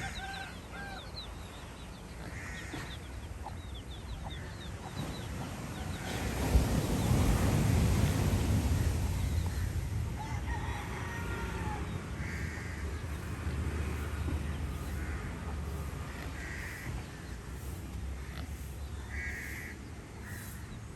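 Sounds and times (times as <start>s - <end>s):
wind and surf rumble: 0.0s - 20.9s.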